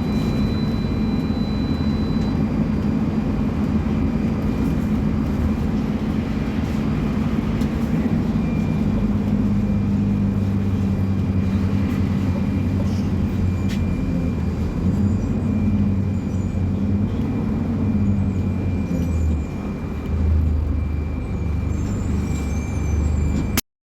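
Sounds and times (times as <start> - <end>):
diesel engine droning: 0.0 - 23.6.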